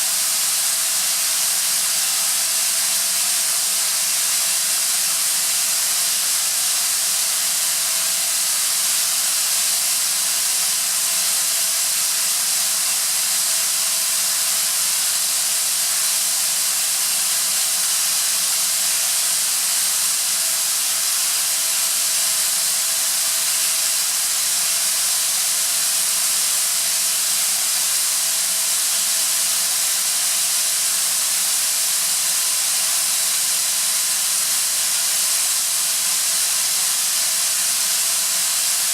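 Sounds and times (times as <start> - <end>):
air compressor hissing: 0.0 - 38.9.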